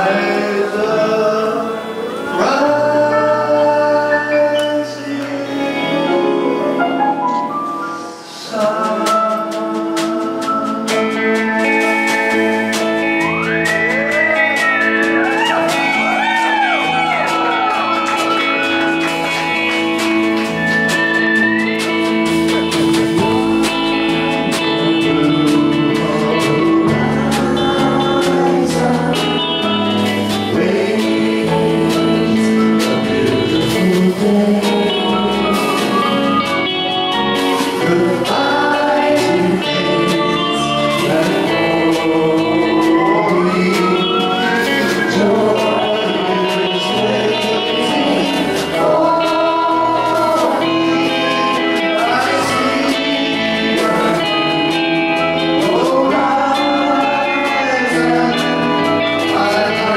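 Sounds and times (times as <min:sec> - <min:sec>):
acoustic guitar: 0:00.0 - 0:59.9
man singing: 0:00.0 - 0:59.9
pedal steel guitar: 0:00.0 - 0:59.9.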